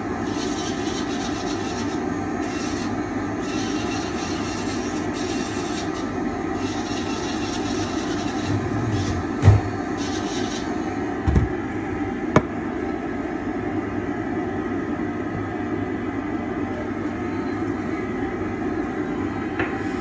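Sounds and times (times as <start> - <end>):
dust extractor running: 0.0 - 16.6.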